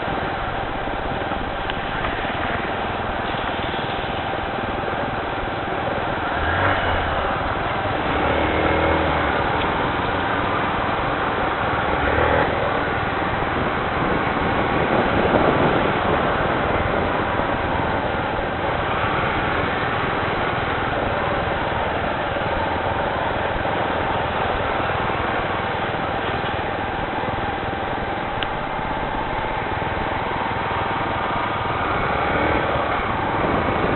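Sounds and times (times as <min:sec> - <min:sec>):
heavy rain hissing: 0:00.0 - 0:33.9
low rumbles: 0:00.0 - 0:33.9.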